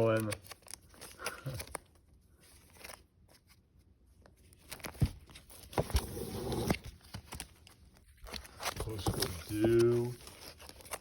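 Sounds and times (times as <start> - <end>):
papery rustling: 0.0 - 11.0.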